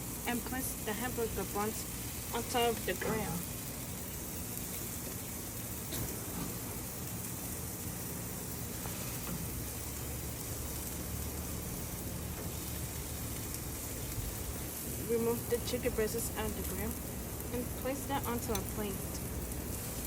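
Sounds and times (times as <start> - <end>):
food sizzling on a grill: 0.0 - 20.0.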